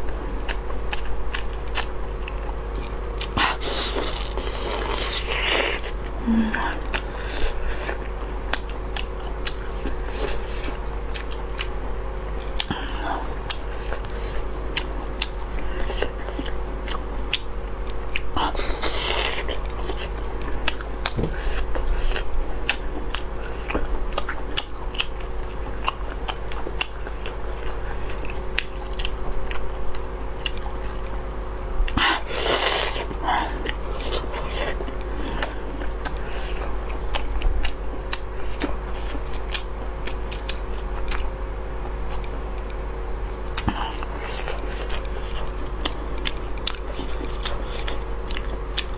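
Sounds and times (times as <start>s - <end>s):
biting and chewing sausage: 0.0s - 48.9s
steady low hum: 0.0s - 48.9s.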